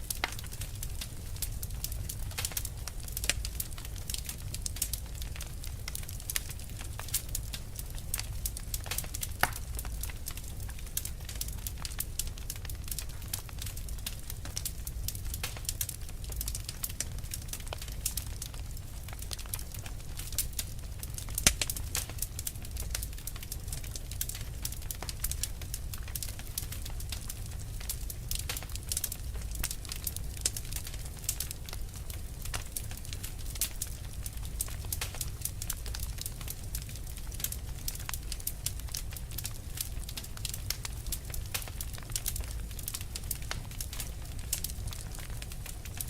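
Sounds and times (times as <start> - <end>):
low rumble of flame: 0.0 - 46.0
wood fire crackling and popping: 0.0 - 46.0.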